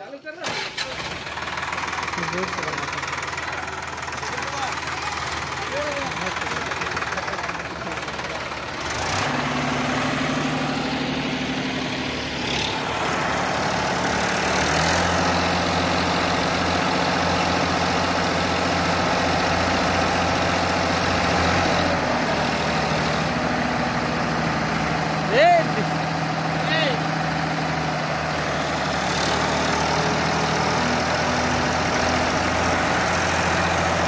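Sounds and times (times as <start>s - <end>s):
tractor diesel engines straining: 0.0s - 34.0s.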